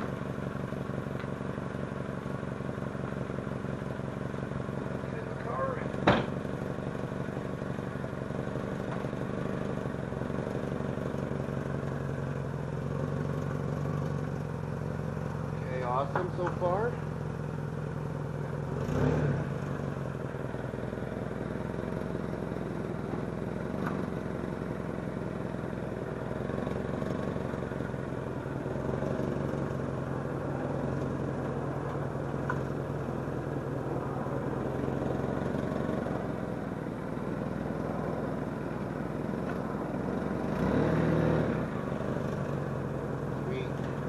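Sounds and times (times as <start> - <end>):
car engine running: 0.0 - 44.0
road noise: 0.0 - 44.0.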